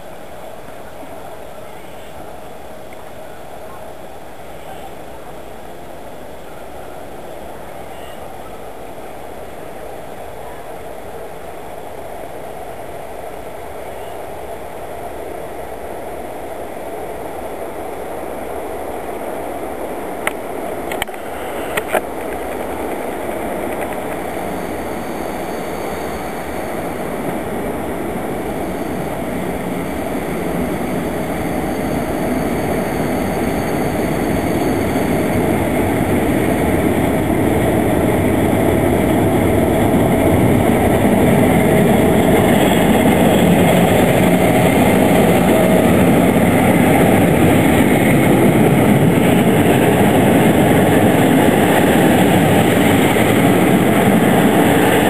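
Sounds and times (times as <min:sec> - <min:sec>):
electric train passing: 0:00.0 - 0:55.0.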